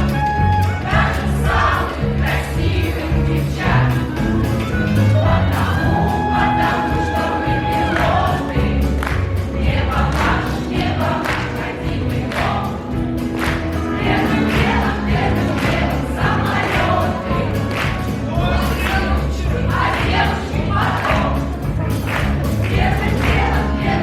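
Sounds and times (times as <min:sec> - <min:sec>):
instrumental accompaniment with beat: 0:00.0 - 0:24.0
choir singing: 0:00.7 - 0:21.8, 0:22.6 - 0:24.0.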